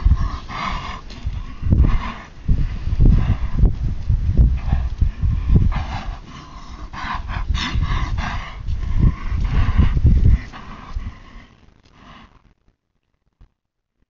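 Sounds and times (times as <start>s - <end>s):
hoofbeats in soft dirt: 0.0s - 12.5s
horse breathing: 0.0s - 12.5s
low irregular rumble: 0.0s - 12.6s.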